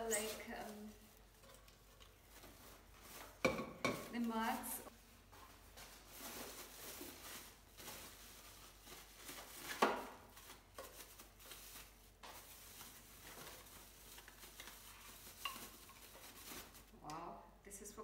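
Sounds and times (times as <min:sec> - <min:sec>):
plastic bags rustling and crinkling: 0:00.0 - 0:17.0.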